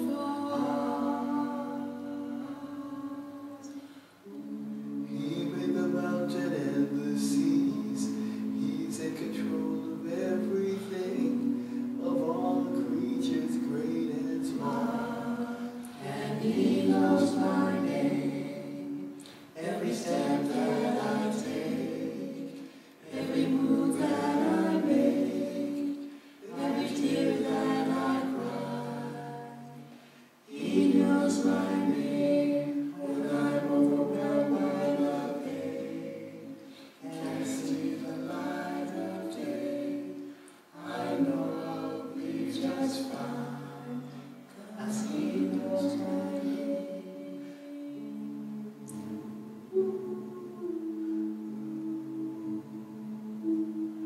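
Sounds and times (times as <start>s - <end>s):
a cappella group singing: 0.0s - 54.0s.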